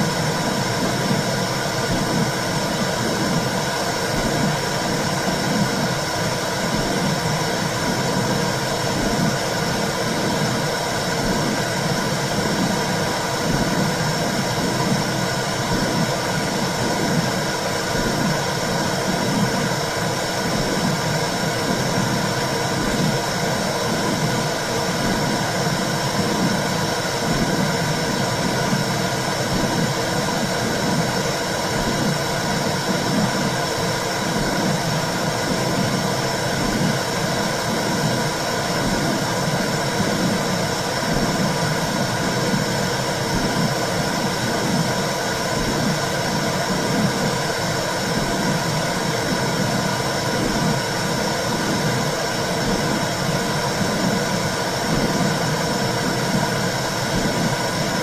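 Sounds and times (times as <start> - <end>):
low heartbeat-like pulse: 0.0 - 6.0, 6.6 - 58.0.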